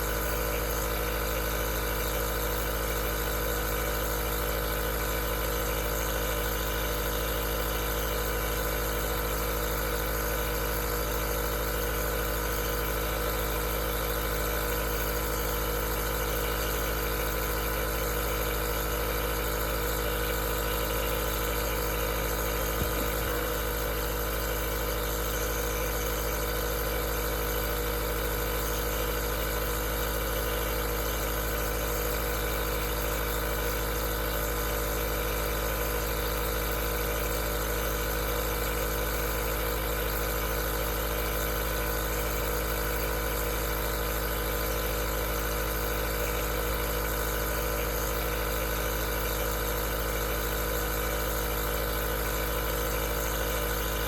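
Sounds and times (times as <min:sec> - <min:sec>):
nebulizer motor humming: 0:00.0 - 0:54.0.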